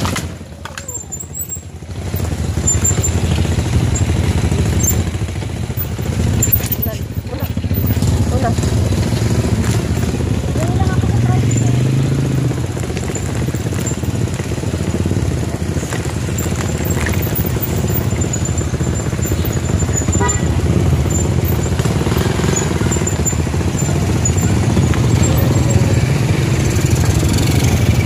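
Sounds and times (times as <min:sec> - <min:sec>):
motorcycle engine droning: 0:00.0 - 0:28.0.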